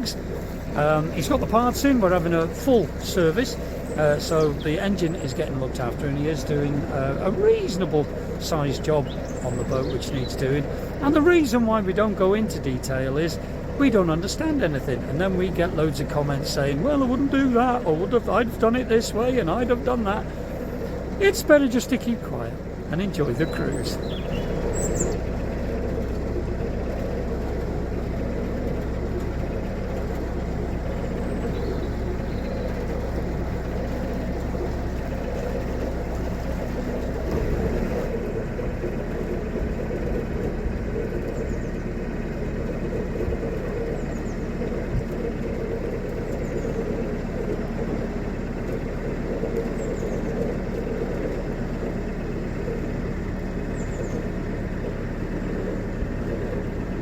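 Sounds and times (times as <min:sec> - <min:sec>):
boat diesel engine humming: 0:00.0 - 0:57.0.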